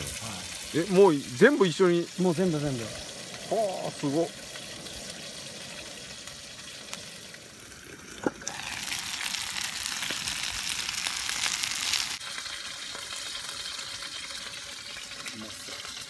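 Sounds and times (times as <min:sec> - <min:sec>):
dumplings frying and steaming hiss: 0:00.0 - 0:16.0
food sizzling in frying pan: 0:00.0 - 0:16.0.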